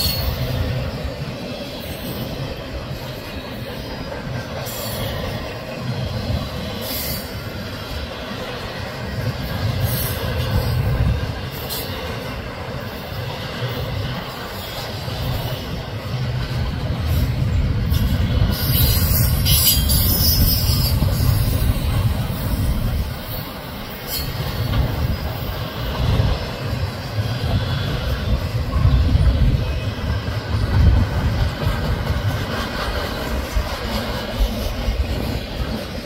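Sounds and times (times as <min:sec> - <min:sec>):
freight train wheels rumbling on rail: 0:00.0 - 0:36.0.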